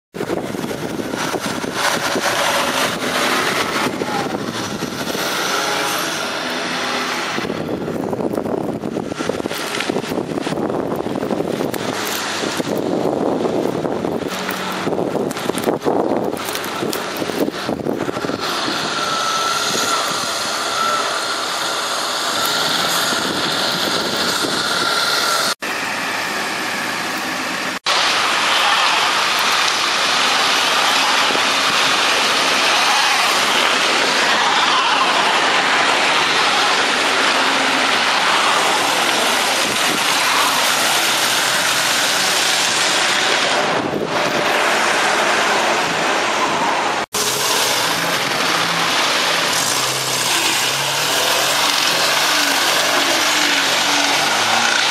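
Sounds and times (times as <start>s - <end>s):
car engines revving: 0.1s - 54.9s
loud noisy hiss: 0.2s - 7.8s, 17.1s - 54.9s.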